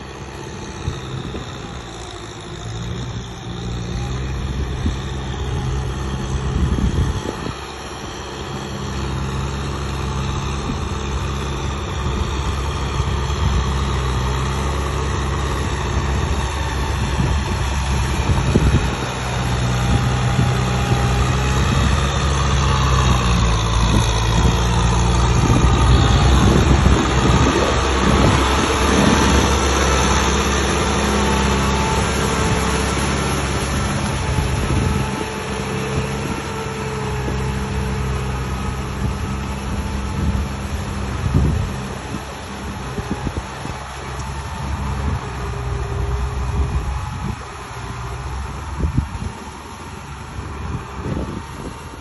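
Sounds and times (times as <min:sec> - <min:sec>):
heavy machine diesel engine running: 0:00.0 - 0:52.0.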